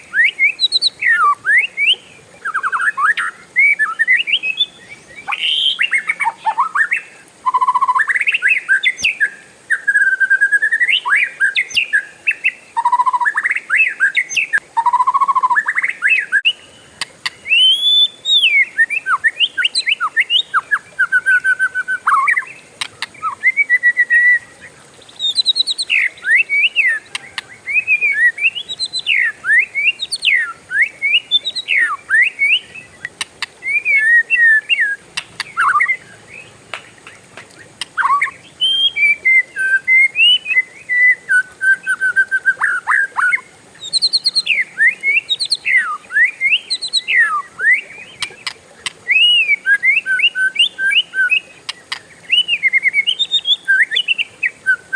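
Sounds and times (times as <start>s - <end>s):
bird singing whistled song: 0.0s - 36.9s, 37.5s - 54.9s.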